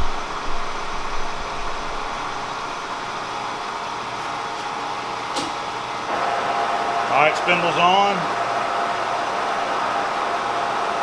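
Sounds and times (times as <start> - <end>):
milling machine motor hum: 0.0 - 11.0.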